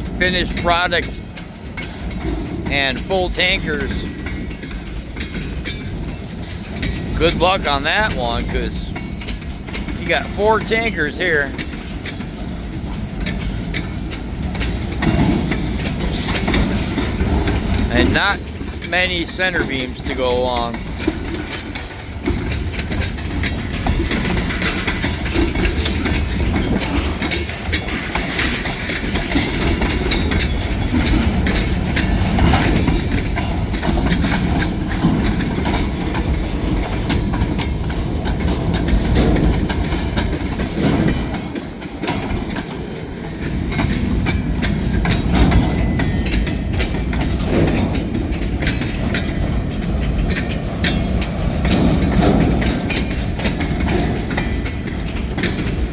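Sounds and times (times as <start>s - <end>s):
train wheels clicking over rail joints: 0.0s - 55.9s
wind buffeting microphone: 0.0s - 55.9s.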